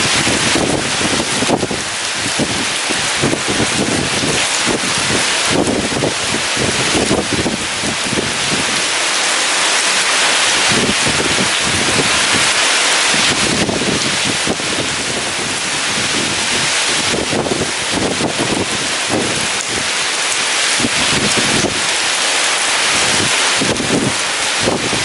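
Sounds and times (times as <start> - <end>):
gusting wind: 0.0 - 25.0
heavy rain pouring: 0.0 - 25.0.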